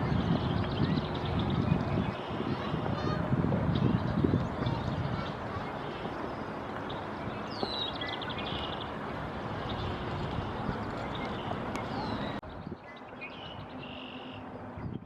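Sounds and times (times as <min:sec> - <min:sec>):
songbird calls: 0:00.0 - 0:08.9, 0:09.6 - 0:15.0
steady rushing noise: 0:00.0 - 0:12.5.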